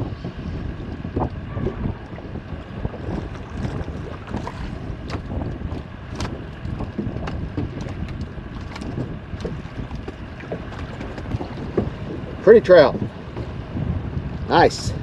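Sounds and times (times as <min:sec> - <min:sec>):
water lapping around boat: 0:00.0 - 0:15.0
wind buffeting microphone: 0:00.0 - 0:15.0.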